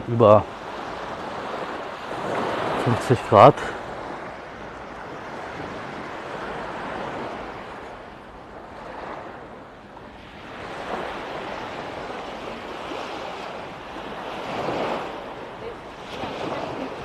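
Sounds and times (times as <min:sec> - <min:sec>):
small waves washing onto beach: 0:00.0 - 0:17.0.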